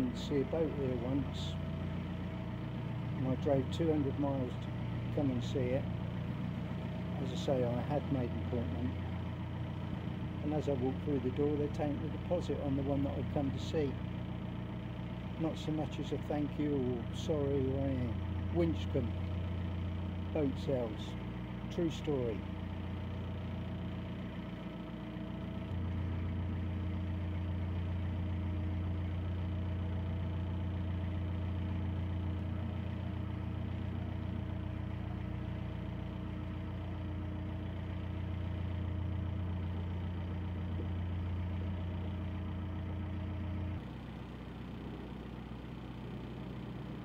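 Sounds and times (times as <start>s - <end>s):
boat diesel engine running: 0.0s - 47.0s.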